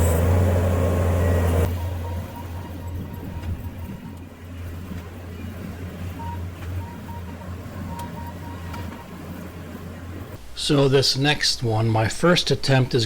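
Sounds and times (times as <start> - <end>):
diesel engine running: 0.0 - 10.5.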